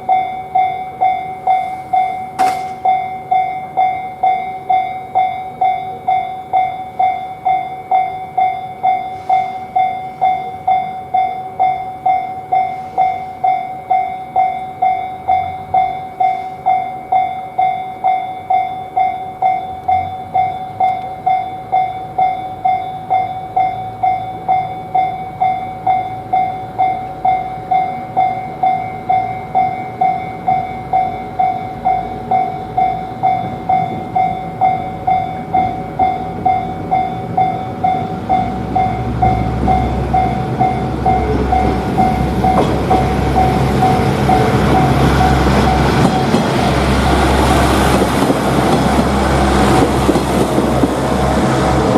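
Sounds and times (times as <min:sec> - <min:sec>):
level crossing warning bell: 0:00.0 - 0:51.9
train rumble: 0:00.0 - 0:51.9.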